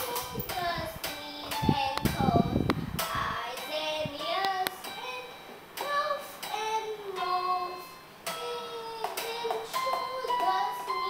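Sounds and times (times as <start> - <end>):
boy singing: 0.0 - 11.0.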